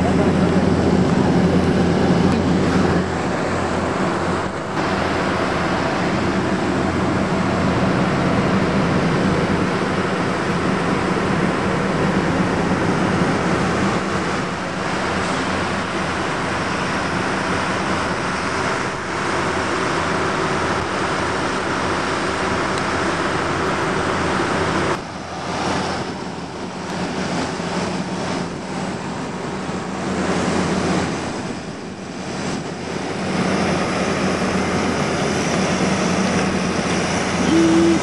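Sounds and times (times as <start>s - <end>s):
diesel locomotive engines humming: 0.0s - 38.0s.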